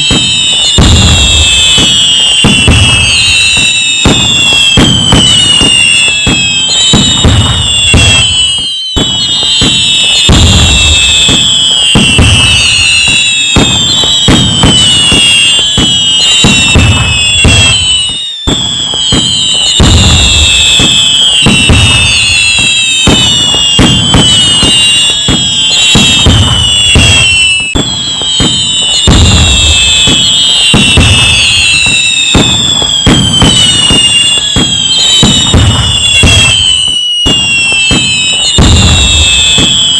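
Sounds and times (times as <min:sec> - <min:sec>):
firework whistles falling in pitch: 0:00.0 - 0:39.9
fireworks bangs and crackling: 0:00.0 - 0:39.9.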